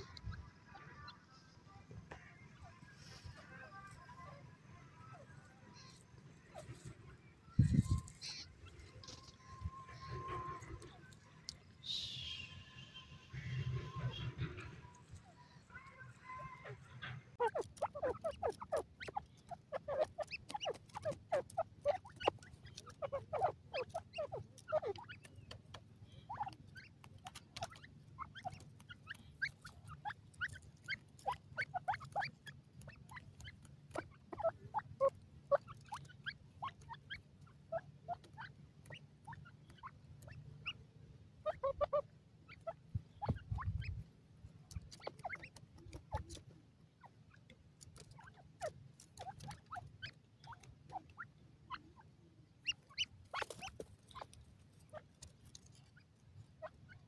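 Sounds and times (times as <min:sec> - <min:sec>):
birds clucking softly: 0:00.0 - 0:12.0, 0:13.4 - 0:57.0
birds pecking soil: 0:00.0 - 0:57.0.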